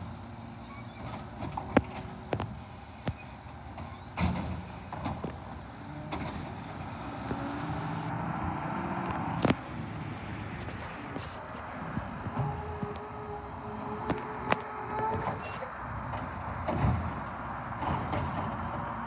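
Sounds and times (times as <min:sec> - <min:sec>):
garbage truck engine: 0:00.0 - 0:19.0.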